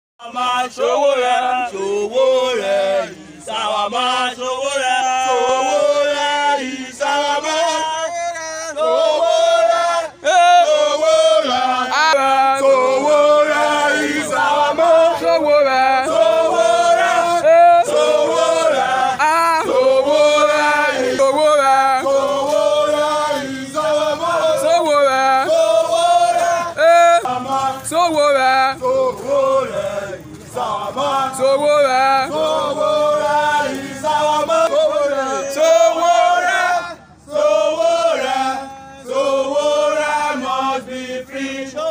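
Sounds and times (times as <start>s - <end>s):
group singing a chant: 0.2s - 41.9s.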